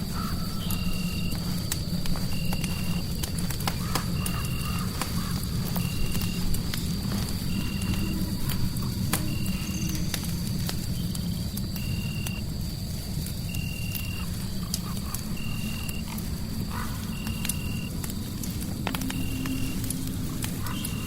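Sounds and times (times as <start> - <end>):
fireplace crackling and popping: 0.0 - 21.0.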